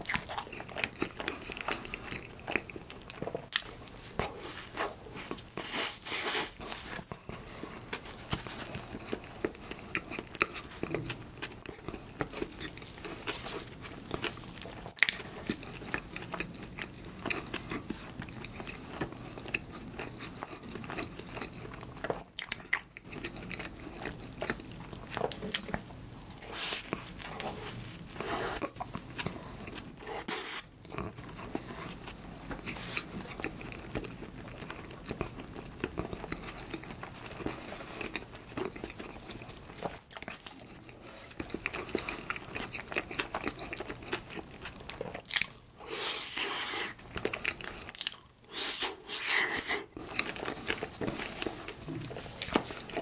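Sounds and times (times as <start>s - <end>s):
chewing bread: 0.0s - 53.0s.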